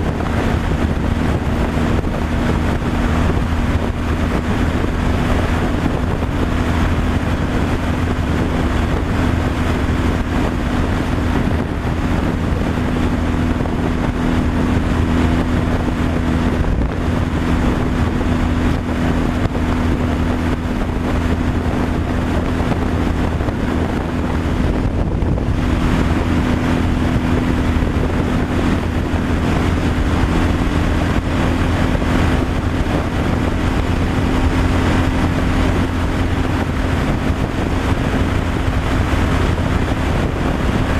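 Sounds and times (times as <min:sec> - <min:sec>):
road and wind noise: 0:00.0 - 0:40.9
truck engine droning: 0:00.0 - 0:40.9.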